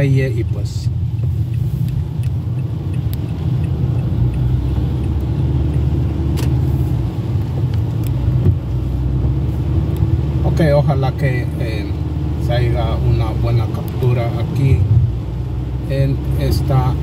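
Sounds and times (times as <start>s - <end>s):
car driving on wet road: 0.0s - 17.0s.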